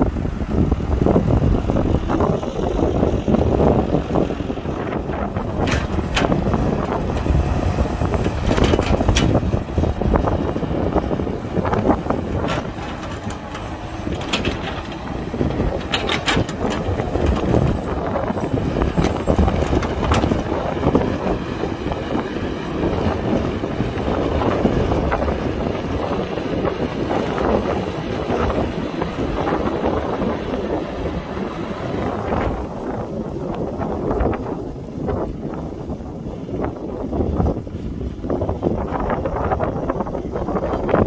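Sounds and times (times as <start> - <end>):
heavy diesel machinery running: 0.0 - 41.0
wind buffeting microphone: 0.0 - 41.0.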